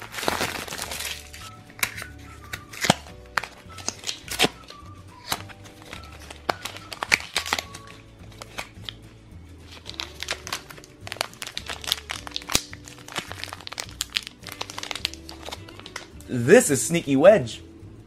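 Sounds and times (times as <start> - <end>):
plastic packaging crinkling: 0.0 - 9.0, 9.7 - 16.2
background music with bass line: 0.0 - 18.0.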